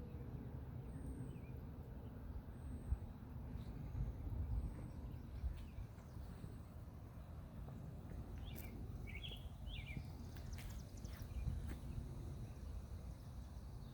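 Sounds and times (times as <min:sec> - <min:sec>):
birds chirping: 0:00.0 - 0:13.9
low outdoor rumble: 0:00.0 - 0:13.9.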